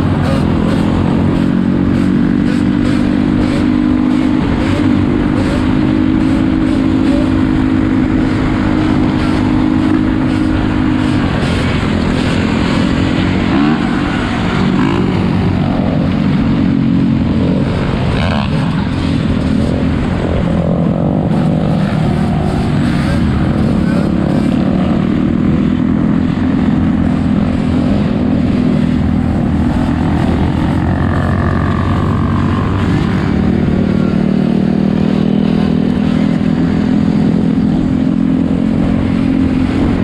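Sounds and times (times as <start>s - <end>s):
atv engines revving: 0.0s - 40.0s.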